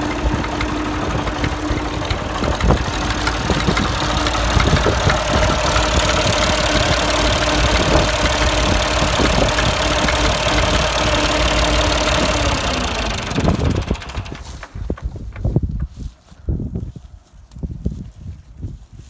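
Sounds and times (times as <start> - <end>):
tractor engine idling: 0.0 - 15.8.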